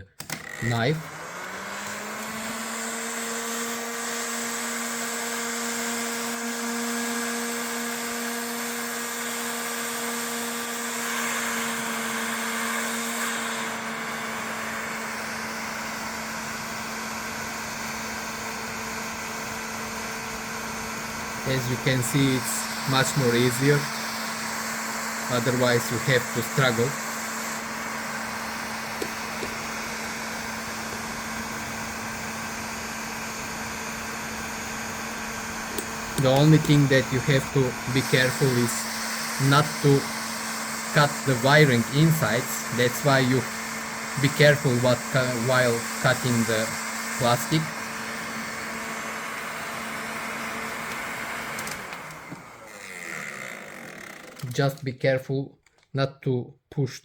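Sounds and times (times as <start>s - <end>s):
heat gun fan whir: 0.0s - 54.9s.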